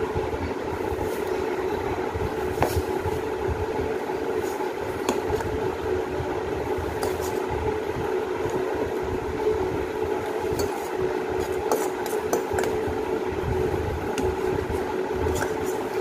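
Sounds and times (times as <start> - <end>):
electric fan hum: 0.0 - 16.0.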